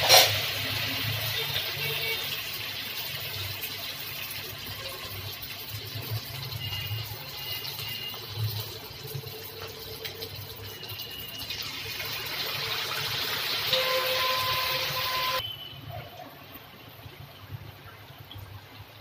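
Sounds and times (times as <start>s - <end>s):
hot oil sizzling and bubbling: 0.0s - 19.0s.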